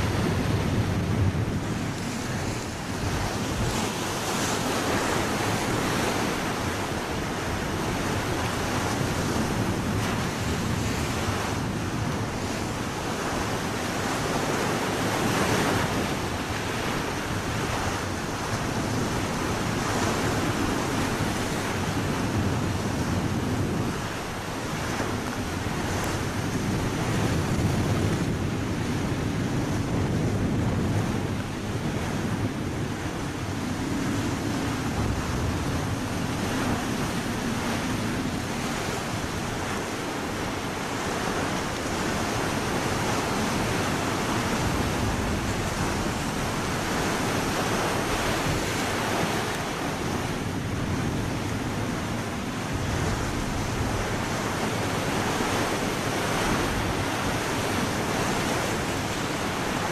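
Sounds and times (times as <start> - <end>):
sea water rushing past ship: 0.0 - 59.9
wind buffeting microphone: 0.0 - 59.9.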